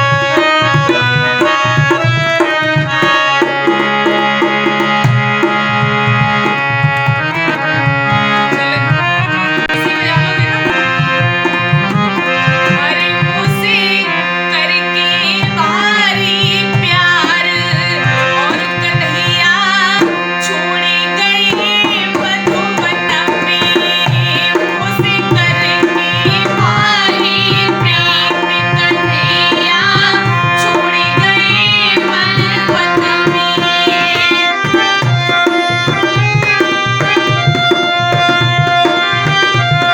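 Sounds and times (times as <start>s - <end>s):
harmonium chords: 0.0s - 39.9s
tabla rhythm: 0.0s - 39.9s.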